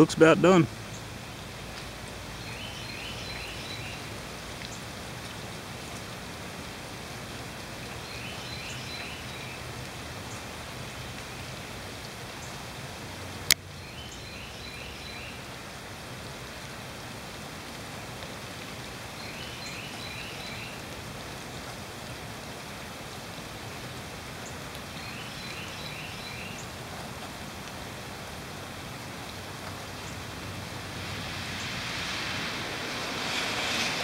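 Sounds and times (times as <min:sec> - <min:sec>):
rain hiss: 0:00.0 - 0:34.0.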